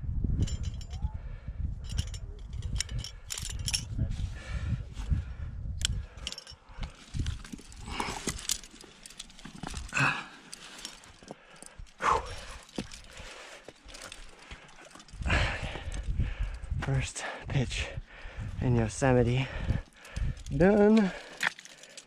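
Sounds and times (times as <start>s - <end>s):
metal climbing gear clinking: 0.3s - 4.3s, 5.8s - 22.0s.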